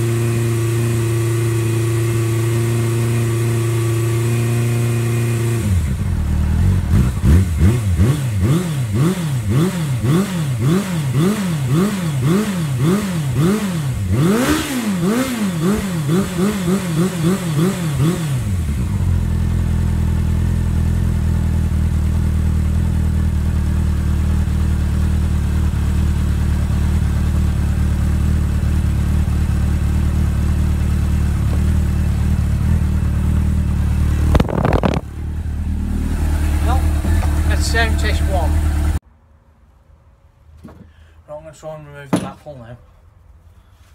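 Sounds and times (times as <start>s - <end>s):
motorcycle engine idling: 0.0s - 14.4s, 15.0s - 39.0s
motorcycle engine revving: 0.0s - 39.0s.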